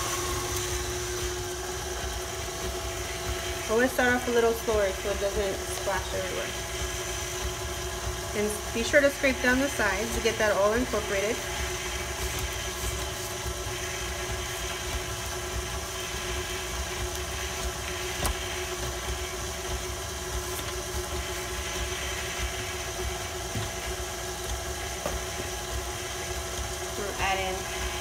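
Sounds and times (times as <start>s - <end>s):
stand mixer motor running: 0.0s - 28.0s.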